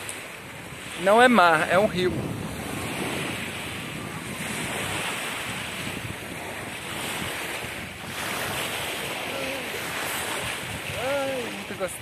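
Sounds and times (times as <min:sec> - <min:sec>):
waves lapping on stony shore: 0:00.0 - 0:12.0
wind buffeting microphone: 0:00.0 - 0:12.0.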